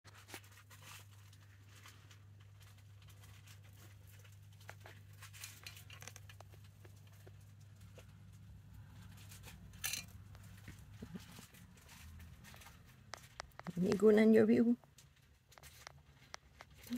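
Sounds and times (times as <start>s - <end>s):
rustling in hamster bedding: 0.1s - 16.9s.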